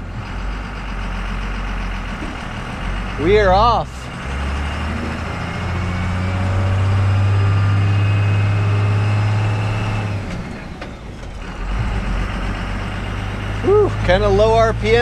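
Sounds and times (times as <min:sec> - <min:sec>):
diesel truck engine pulling uphill: 0:00.0 - 0:15.0.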